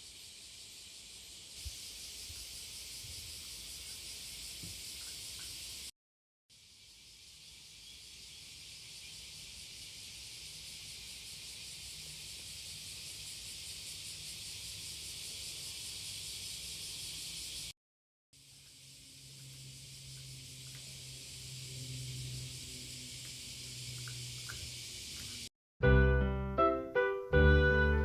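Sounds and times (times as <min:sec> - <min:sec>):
high-pitched insect chorus: 0:00.0 - 0:05.9, 0:06.5 - 0:17.8, 0:18.4 - 0:25.5.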